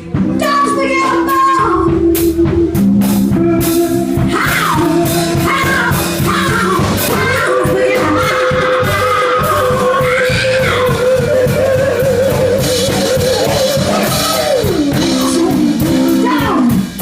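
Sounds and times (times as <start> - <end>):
bass guitar: 0.0 - 17.0
drum kit beat: 0.0 - 17.0
electric guitars: 0.0 - 17.0
live blues band: 0.0 - 17.0.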